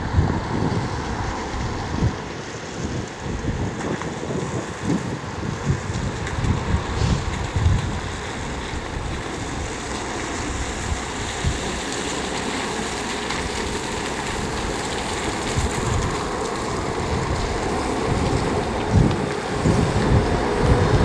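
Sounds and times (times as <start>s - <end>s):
road traffic hiss: 0.0s - 21.0s
wind buffeting microphone: 0.0s - 21.0s.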